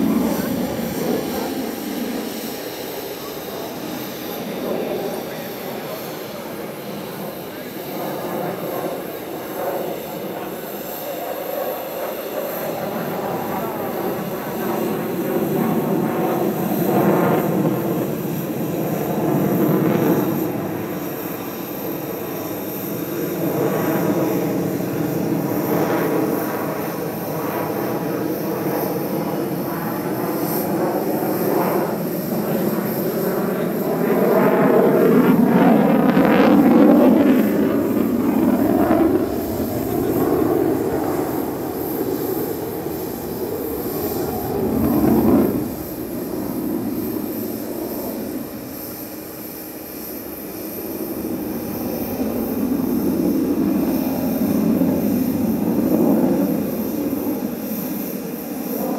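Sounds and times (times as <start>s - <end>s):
fighter jet engines: 0.0s - 58.9s.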